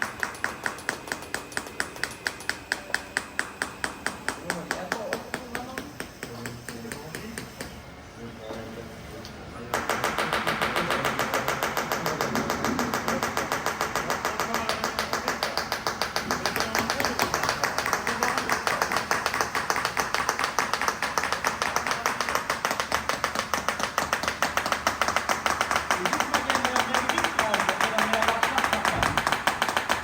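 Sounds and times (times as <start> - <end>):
fast mechanical clicking: 0.0 - 7.8, 9.7 - 30.0.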